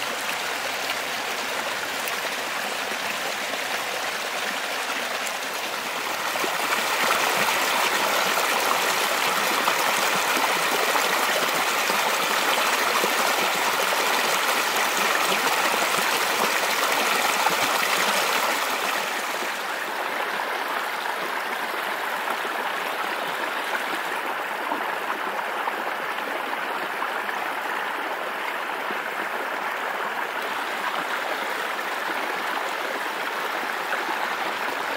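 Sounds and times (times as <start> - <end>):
stream splashing over rocks: 0.0 - 34.9.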